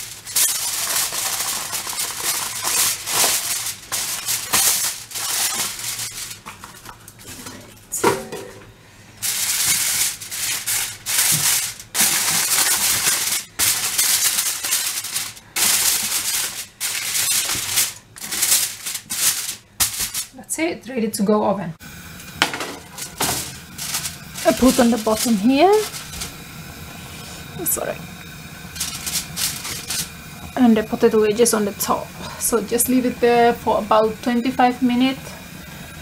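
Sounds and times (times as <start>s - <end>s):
kitchen foil crinkling: 0.0s - 8.0s, 9.2s - 20.5s, 22.0s - 35.4s.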